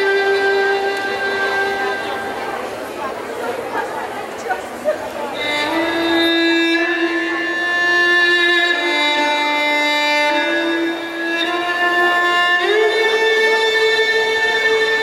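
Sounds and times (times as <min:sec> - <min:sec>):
slow violin melody: 0:00.0 - 0:02.8, 0:05.2 - 0:15.0.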